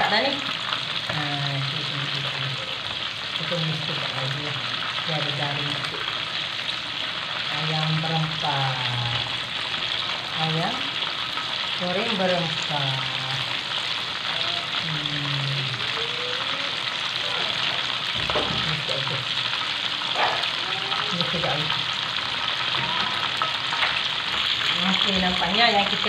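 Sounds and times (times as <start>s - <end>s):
chicken deep-frying in oil: 0.0s - 26.0s.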